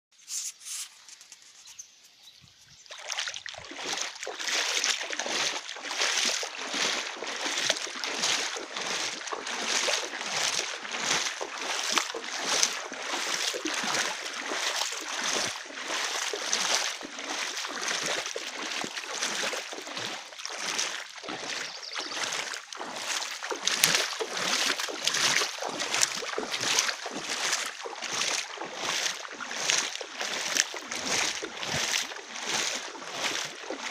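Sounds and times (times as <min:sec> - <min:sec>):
wading through water splashing: 0:02.9 - 0:33.9.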